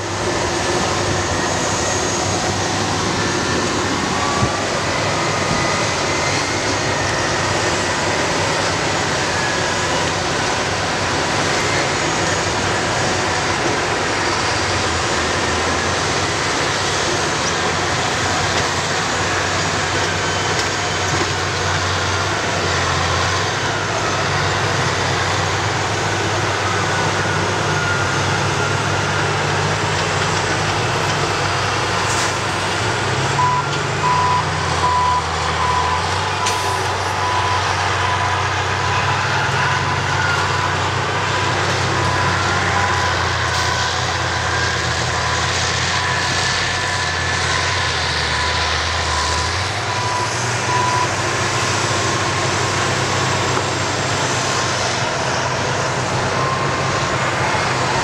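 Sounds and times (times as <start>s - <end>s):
diesel engines running: 0.0s - 58.0s
reversing alarm beeping: 0.0s - 58.0s.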